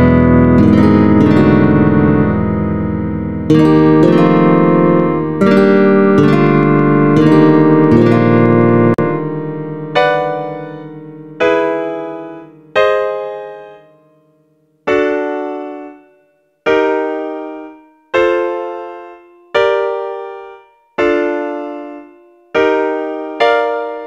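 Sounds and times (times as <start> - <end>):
piano chords ringing: 0.0 - 24.0.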